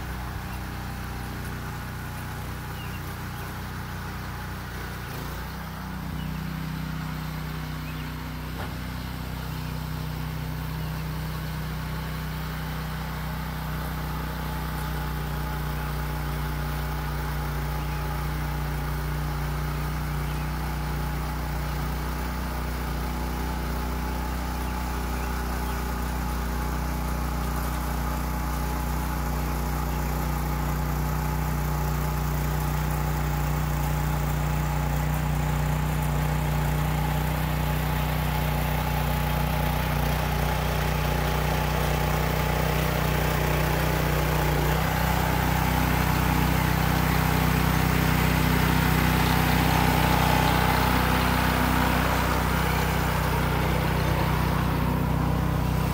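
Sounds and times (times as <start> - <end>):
garden tiller engine running: 0.0 - 55.9
tines churning soil: 0.0 - 55.9.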